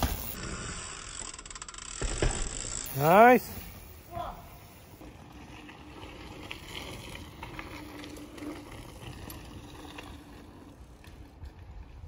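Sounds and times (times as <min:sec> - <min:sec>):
bike tyres rumbling on dirt: 0:00.0 - 0:01.3, 0:01.9 - 0:12.0
bike clicks and rattles: 0:00.0 - 0:03.8, 0:04.6 - 0:12.0
wind: 0:00.0 - 0:12.0.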